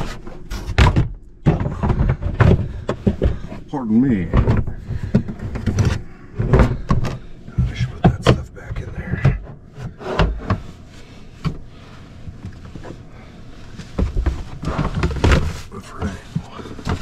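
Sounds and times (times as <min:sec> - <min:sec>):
hard plastic knocks and scrapes: 0:00.0 - 0:11.6, 0:13.6 - 0:17.0.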